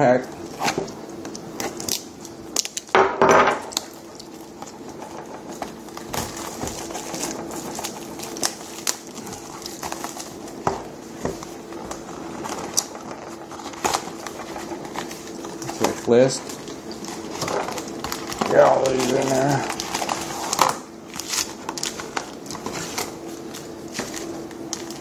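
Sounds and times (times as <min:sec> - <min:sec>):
cardboard and wrapper rustling: 0:03.5 - 0:25.0.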